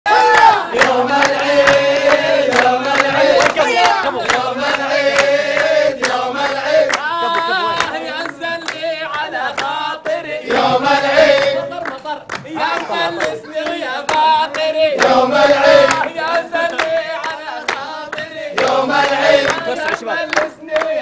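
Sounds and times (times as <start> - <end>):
men chanting together: 0.1 - 21.0
steady percussive beat: 0.7 - 20.1.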